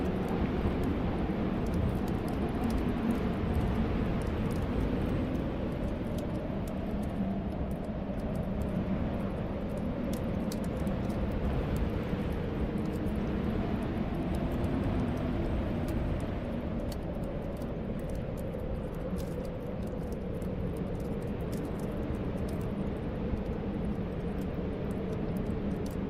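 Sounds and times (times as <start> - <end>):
wind blowing and whistling: 0.0 - 26.0
wood fire crackling: 0.0 - 26.0.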